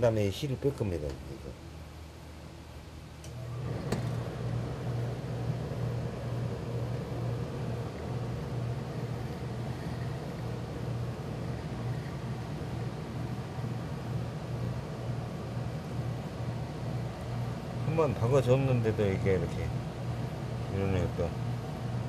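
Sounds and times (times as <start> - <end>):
electric motor hum: 3.3 - 22.0.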